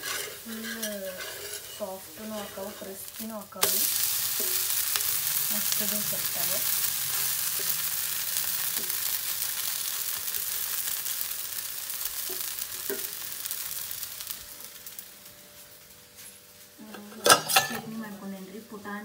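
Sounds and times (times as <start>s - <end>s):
dosa sizzling on griddle: 0.0s - 18.8s.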